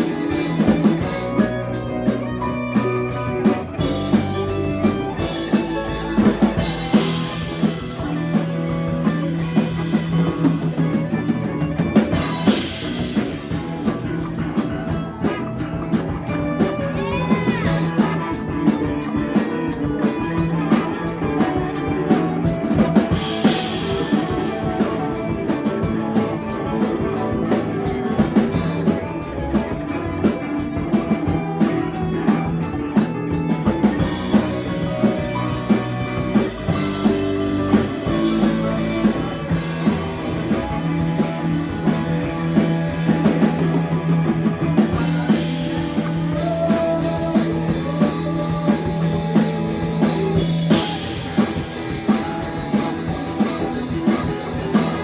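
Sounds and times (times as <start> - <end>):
drum kit beat: 0.0 - 55.0
guitar: 0.0 - 55.0
live rock band playing: 0.0 - 55.0.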